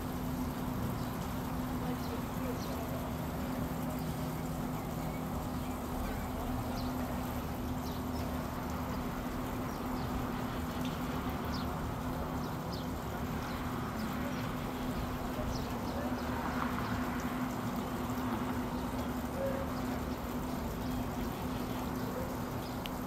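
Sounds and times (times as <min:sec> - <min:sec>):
outdoor noise: 0:00.0 - 0:23.0.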